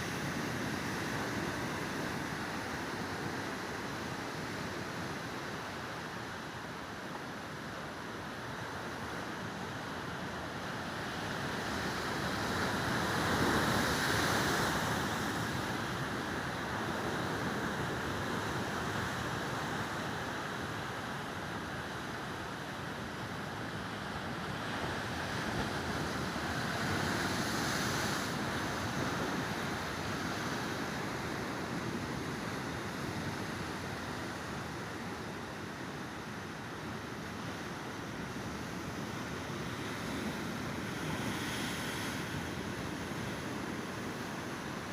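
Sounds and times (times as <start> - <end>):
sea waves surging: 0.0 - 44.9.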